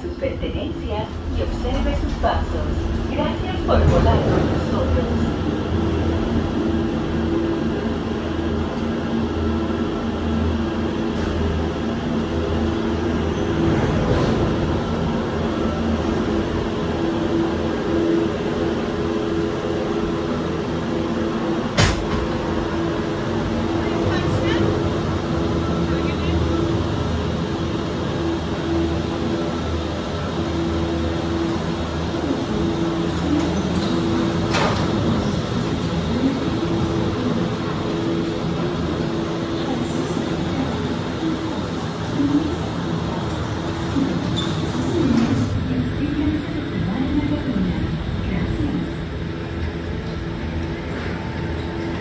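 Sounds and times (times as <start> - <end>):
gondola cabin mechanical rumble: 0.0 - 52.0.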